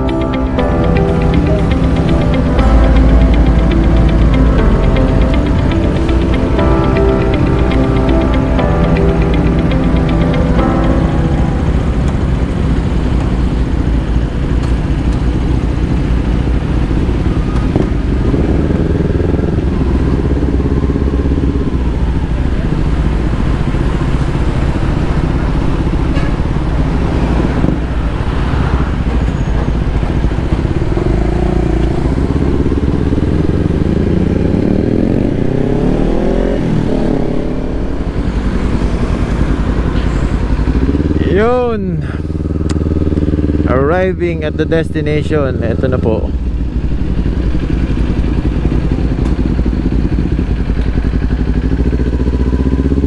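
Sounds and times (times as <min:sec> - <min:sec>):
motorcycle engine running: 0:00.0 - 0:28.2, 0:30.0 - 0:53.0.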